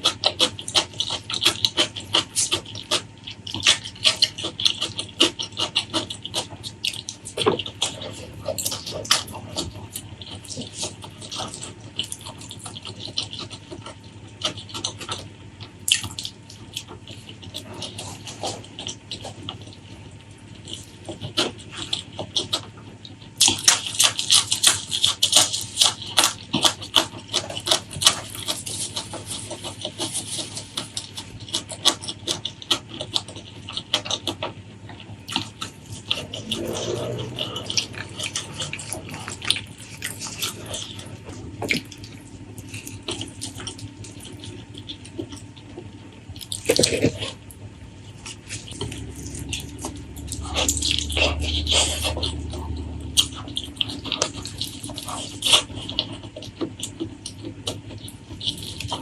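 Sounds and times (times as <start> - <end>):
wet chewing and lip-smacking: 0.0 - 59.0.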